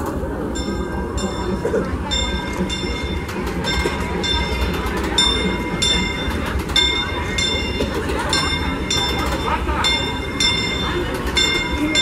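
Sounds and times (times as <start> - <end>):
crowd chatter: 0.0 - 12.0
train rumbling: 0.0 - 12.0
locomotive bell ringing: 0.3 - 12.0.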